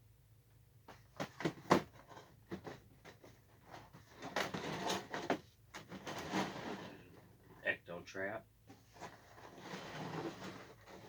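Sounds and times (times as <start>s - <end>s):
boxes rustling and scraping: 0.9s - 7.6s, 8.7s - 11.0s.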